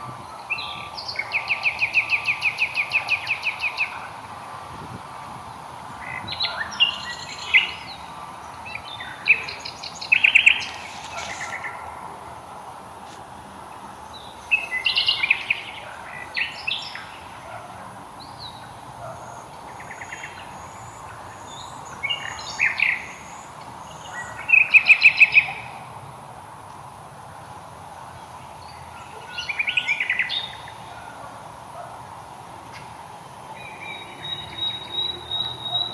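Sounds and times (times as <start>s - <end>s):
songbirds chirping and trilling: 0.0s - 4.4s, 5.4s - 12.3s, 13.6s - 25.9s, 27.4s - 35.9s.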